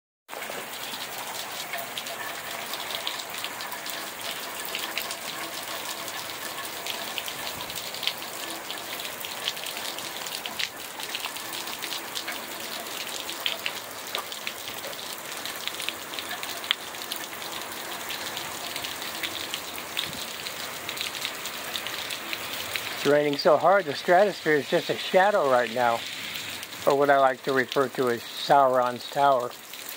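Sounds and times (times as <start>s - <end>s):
heavy rain falling: 0.3s - 29.9s.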